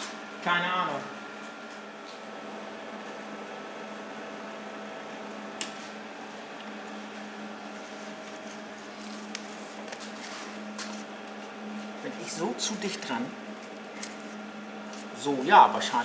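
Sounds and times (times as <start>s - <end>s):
welding machine humming: 0.0s - 16.0s.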